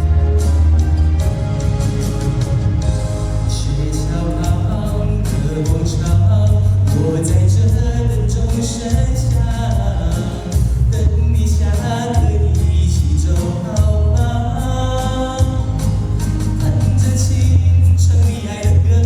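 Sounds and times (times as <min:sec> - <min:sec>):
bass: 0:00.0 - 0:19.0
person singing: 0:03.5 - 0:19.0.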